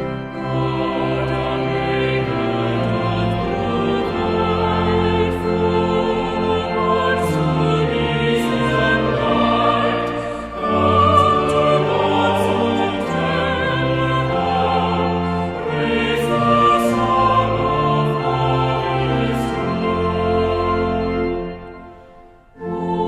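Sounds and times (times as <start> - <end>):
choir singing a hymn: 0.0 - 23.0
instrumental accompaniment: 0.0 - 23.0.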